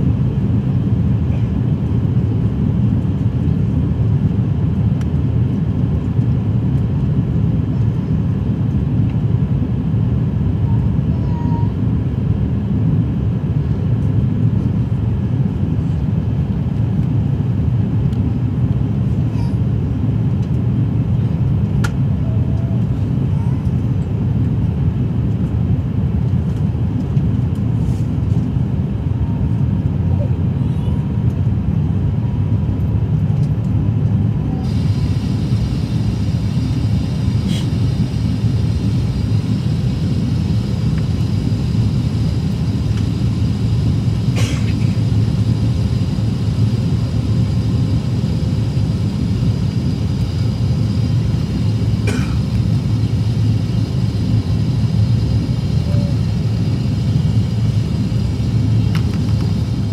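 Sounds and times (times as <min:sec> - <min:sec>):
aircraft cabin rumble: 0:00.0 - 0:59.9.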